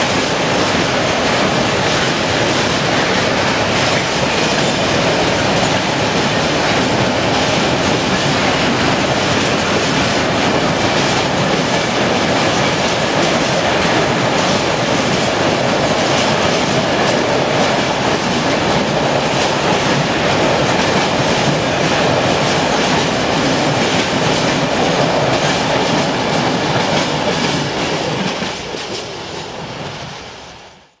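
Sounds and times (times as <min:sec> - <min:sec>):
clickety-clack of wheels over rail joints: 0:00.0 - 0:30.6
freight train rumbling past: 0:00.0 - 0:31.0.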